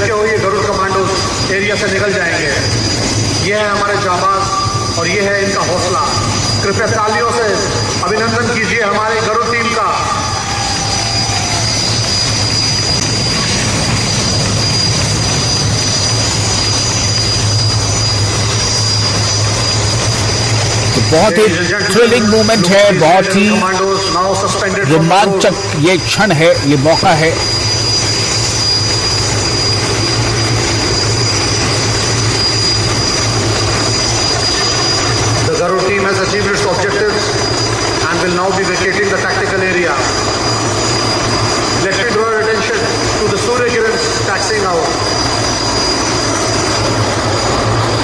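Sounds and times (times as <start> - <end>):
helicopter hovering: 0.0 - 48.0.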